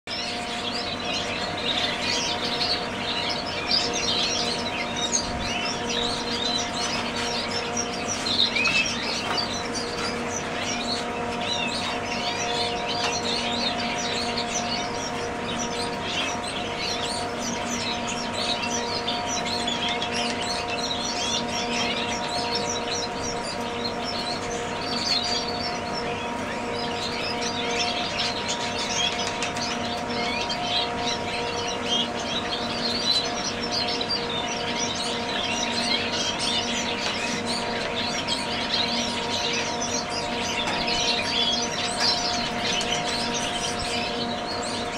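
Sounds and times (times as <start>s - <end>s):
canaries chirping: 0.1s - 44.9s
steady low hum: 0.1s - 44.9s.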